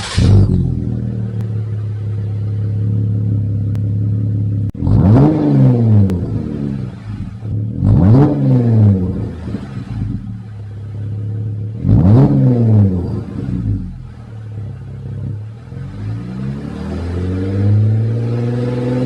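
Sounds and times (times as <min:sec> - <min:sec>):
car engine idling: 0:00.0 - 0:19.0
engine revving: 0:00.0 - 0:19.0.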